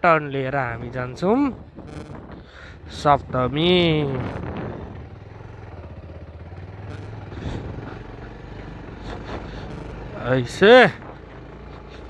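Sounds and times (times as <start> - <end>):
motorcycle engine running low: 0.0 - 12.0.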